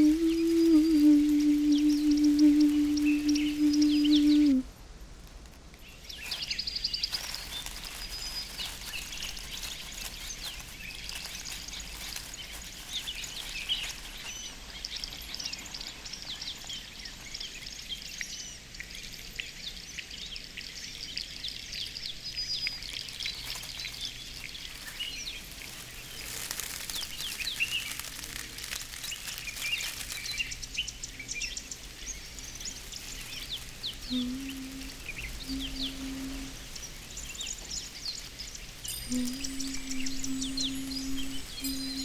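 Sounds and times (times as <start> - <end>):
small birds chirping: 0.0 - 4.7, 5.7 - 42.0
steady hiss: 0.0 - 42.0.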